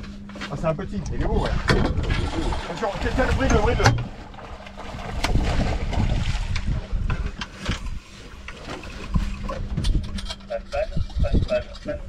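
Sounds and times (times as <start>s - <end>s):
faint steady hum: 0.0s - 12.0s
wind buffeting microphone: 0.8s - 12.0s.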